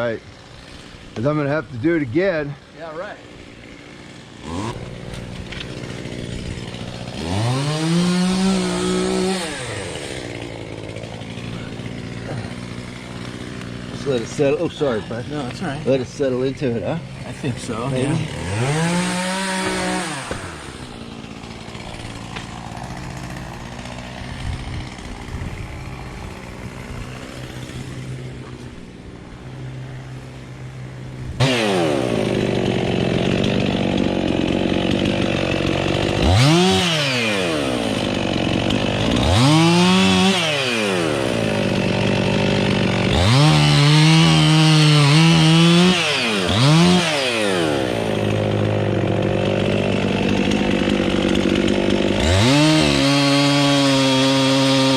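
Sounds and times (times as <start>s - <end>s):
chainsaw idling and cutting wood: 0.0s - 54.9s.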